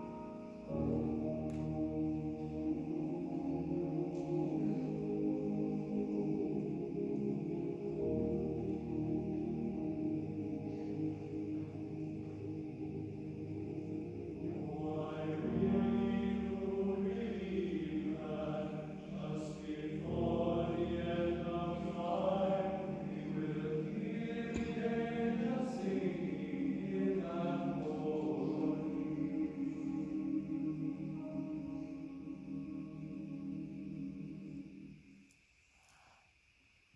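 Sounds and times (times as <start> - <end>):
men's choir singing chords: 0.0 - 35.1.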